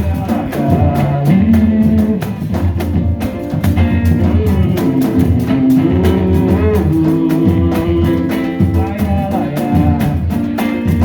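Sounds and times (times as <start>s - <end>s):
deep drum beats and percussion: 0.0s - 11.0s
person singing: 0.0s - 11.0s.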